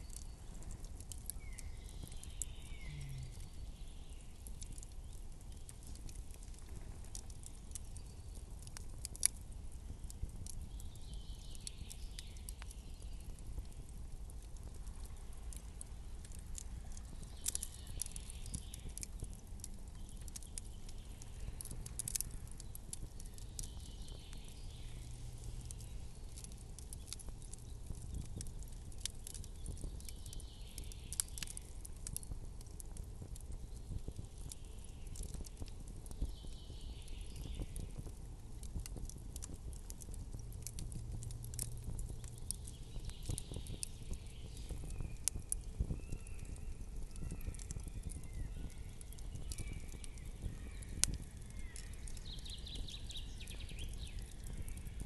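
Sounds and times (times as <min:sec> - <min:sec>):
campfire crackling: 0:00.0 - 0:55.0
low background rumble: 0:00.0 - 0:55.0.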